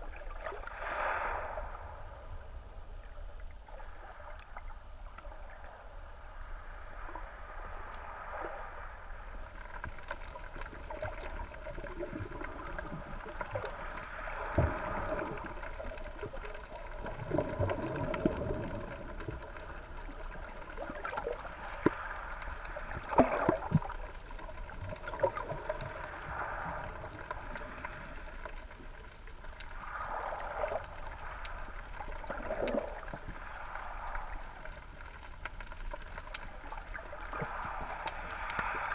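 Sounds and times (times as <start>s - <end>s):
muffled underwater gurgling: 1.4s - 38.9s.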